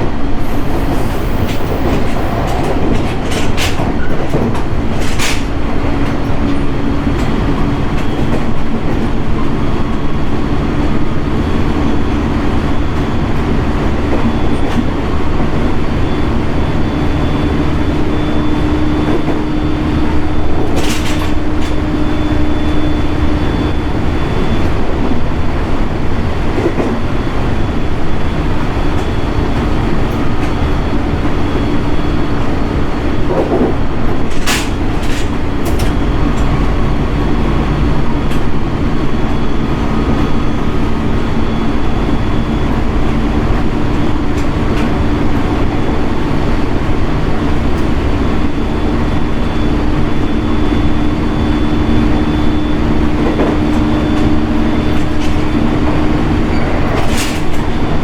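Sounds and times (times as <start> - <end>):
electric train running: 0.0 - 58.0.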